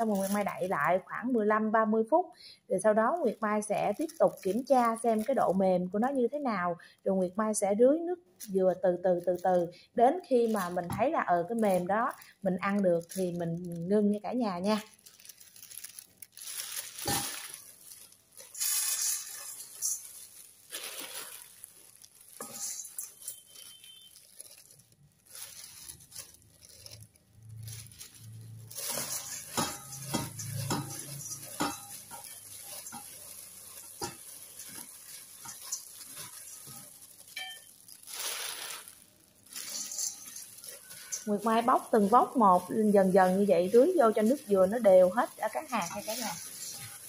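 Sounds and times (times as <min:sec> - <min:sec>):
rice flakes rustling and crackling: 0:00.0 - 0:01.8, 0:02.7 - 0:47.0.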